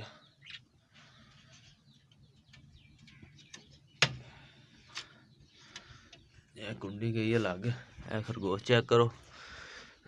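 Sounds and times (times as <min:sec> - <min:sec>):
birds chirping and cooing: 0:00.0 - 0:10.0.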